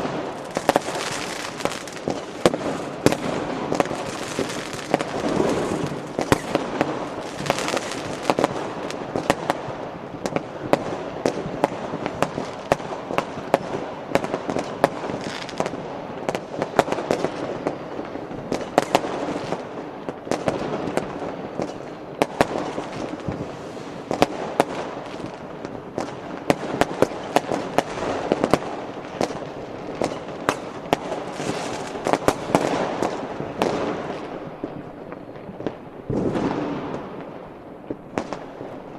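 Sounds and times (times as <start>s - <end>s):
distant fireworks explosions: 0.0s - 38.9s
firecrackers banging: 0.0s - 38.9s.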